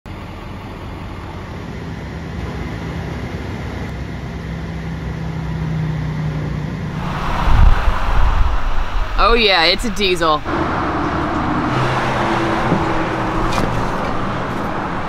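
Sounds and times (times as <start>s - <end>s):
vehicle engine rumble: 0.1s - 15.0s.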